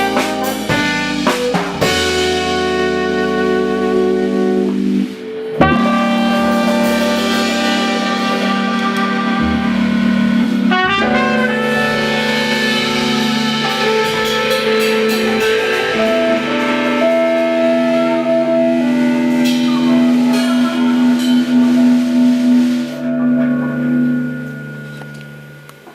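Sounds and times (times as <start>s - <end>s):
bass: 0.0s - 25.9s
drums and cymbals: 0.0s - 25.9s
keyboard chords: 0.0s - 25.9s
trumpet long notes: 0.0s - 25.9s.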